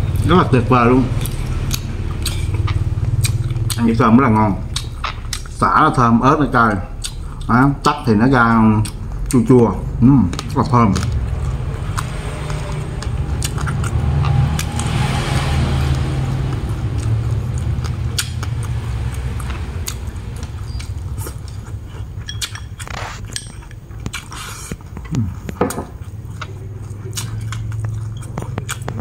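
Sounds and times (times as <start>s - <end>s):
steady low hum: 0.0s - 29.0s
chewing: 1.0s - 5.7s, 6.6s - 29.0s.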